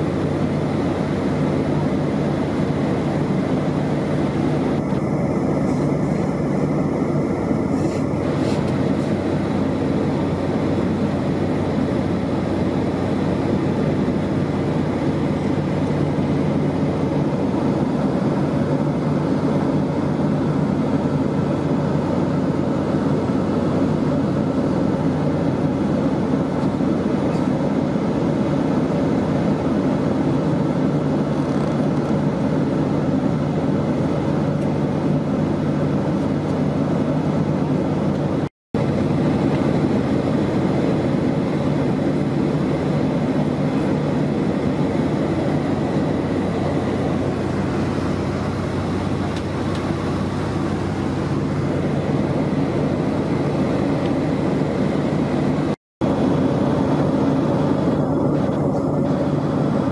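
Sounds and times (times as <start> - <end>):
jet engines droning: 0.0 - 59.9
rushing airflow: 0.0 - 59.9.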